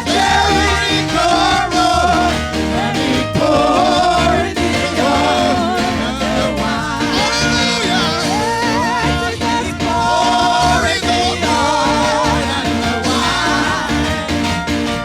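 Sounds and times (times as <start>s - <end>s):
band with drums: 0.0s - 15.0s
gospel singers: 0.0s - 15.0s.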